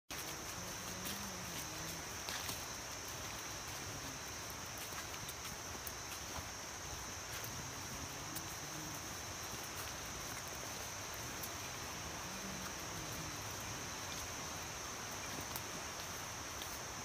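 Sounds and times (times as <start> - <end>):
faint scattered ticks: 0.1 - 17.0
insects buzzing drone: 0.1 - 17.0
leaves hissing: 0.1 - 17.0.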